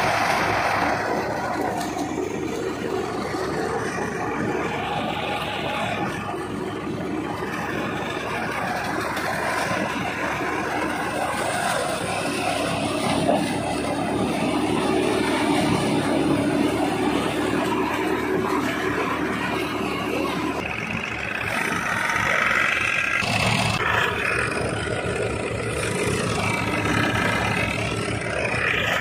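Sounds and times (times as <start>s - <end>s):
threshing drum running: 0.0s - 29.0s
tractor diesel engine: 0.0s - 29.0s.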